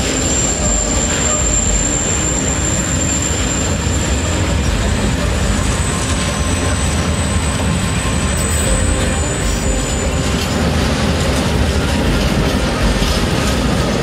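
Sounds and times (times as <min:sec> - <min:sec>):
thin high whine: 0:00.0 - 0:14.0
train wheels rumbling on rails: 0:00.0 - 0:14.0.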